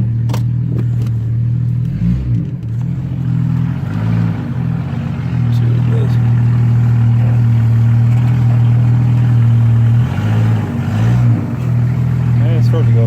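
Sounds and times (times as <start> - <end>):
loud engine through straight exhaust: 0.0 - 13.0.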